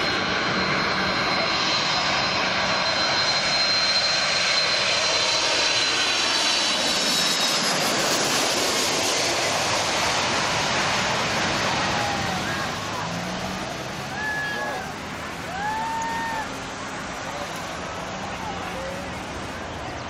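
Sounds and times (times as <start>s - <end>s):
jet engines roaring with high whine: 0.0s - 20.0s.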